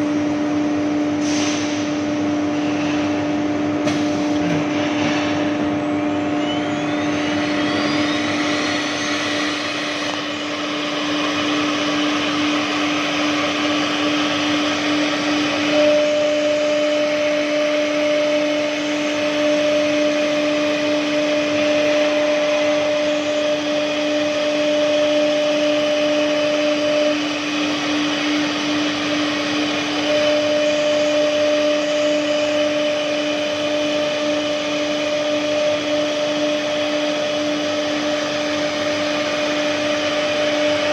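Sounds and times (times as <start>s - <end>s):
machine whine: 0.0s - 40.9s
higher machine tone: 5.4s - 40.9s.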